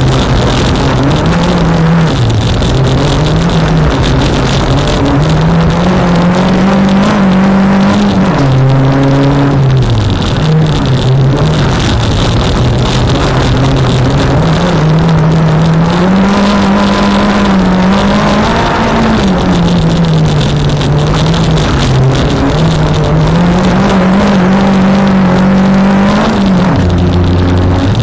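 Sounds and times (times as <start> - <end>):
car engine revving: 0.0 - 28.0
road noise rushing: 0.0 - 28.0.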